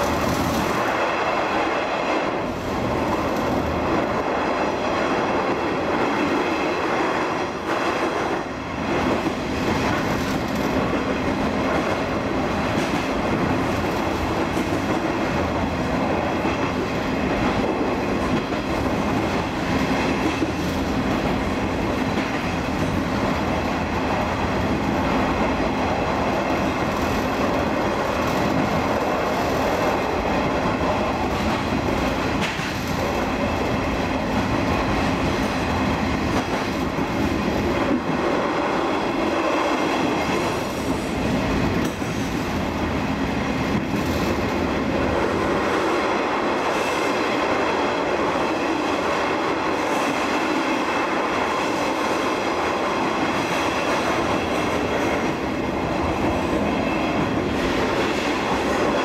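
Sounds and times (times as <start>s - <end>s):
wheel and rail noise: 0.0s - 59.0s.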